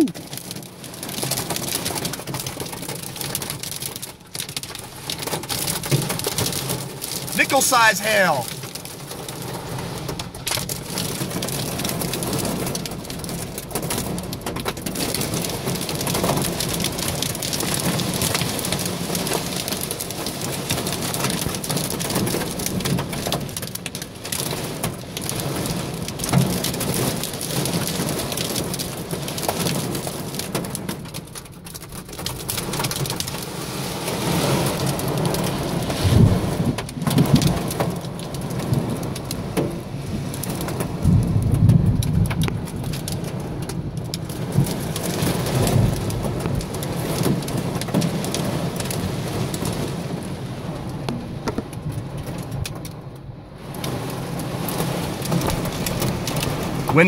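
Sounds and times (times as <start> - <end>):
heavy rain and hail: 0.0 - 57.0.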